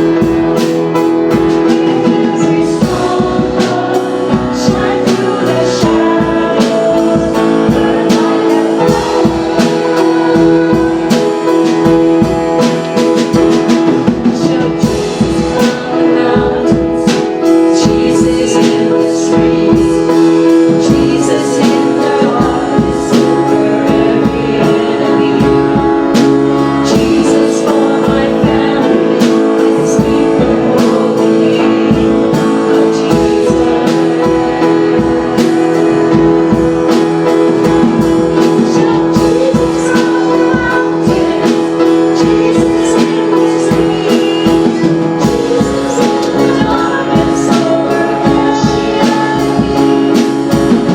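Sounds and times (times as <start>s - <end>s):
drum kit: 0.0s - 50.9s
guitars playing chords: 0.0s - 50.9s
person singing: 0.0s - 50.9s.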